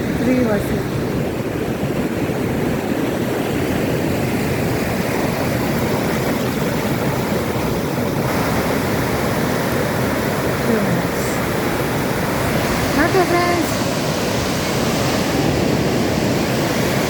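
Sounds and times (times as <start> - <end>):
surf breaking on a beach: 0.0 - 17.0
wind buffeting the microphone: 0.0 - 17.0.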